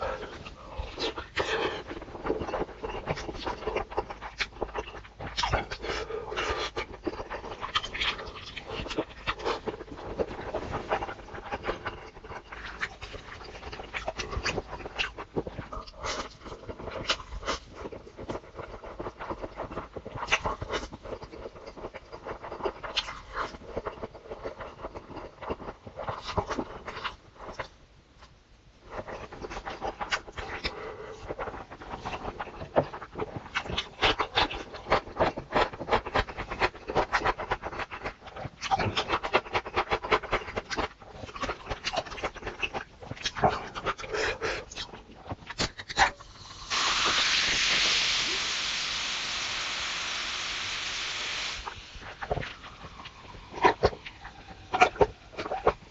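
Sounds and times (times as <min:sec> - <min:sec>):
person chewing and crunching: 0:00.0 - 0:48.3, 0:51.6 - 0:55.9.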